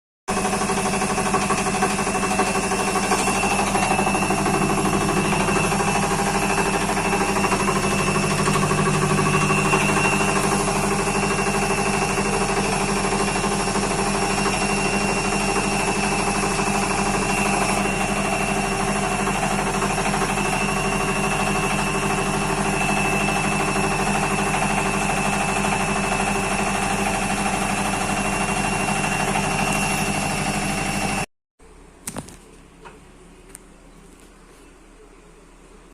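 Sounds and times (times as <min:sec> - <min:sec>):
washing machine motor whine: 0:00.3 - 0:31.3.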